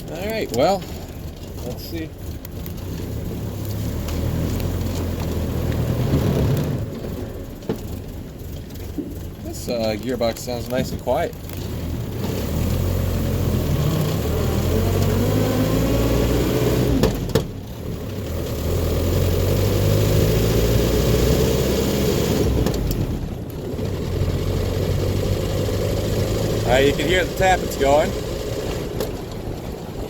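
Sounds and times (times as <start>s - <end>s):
truck engine revving through gears: 0.0s - 30.0s.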